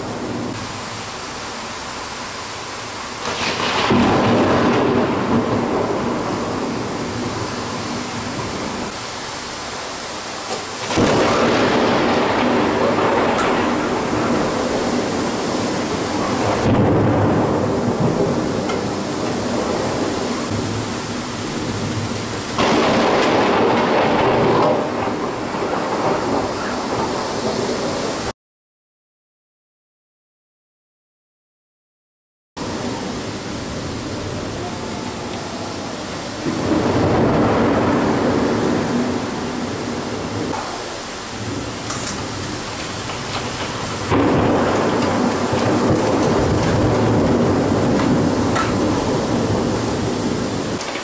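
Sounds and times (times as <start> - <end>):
thunder rumbling: 0.0 - 1.8, 2.6 - 28.3, 32.6 - 51.0
heavy rain: 0.0 - 28.4, 32.6 - 51.0.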